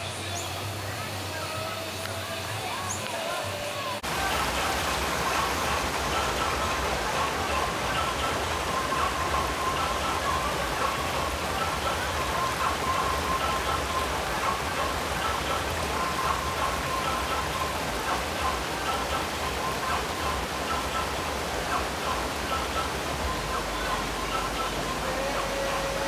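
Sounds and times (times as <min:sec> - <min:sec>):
stream rushing over stones: 0:00.0 - 0:26.0.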